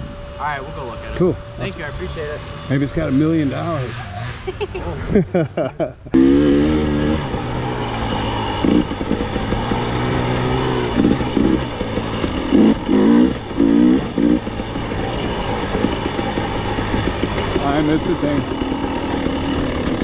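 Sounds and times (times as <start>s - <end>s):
dirt bike engine revving: 0.0s - 5.4s, 6.1s - 20.0s.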